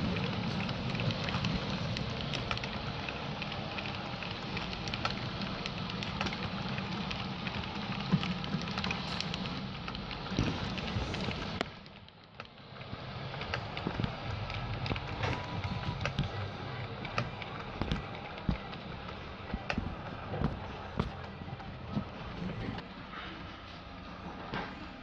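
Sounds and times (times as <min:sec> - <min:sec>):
model train wheels clicking: 0:00.0 - 0:22.8
steady low hum: 0:00.0 - 0:25.0.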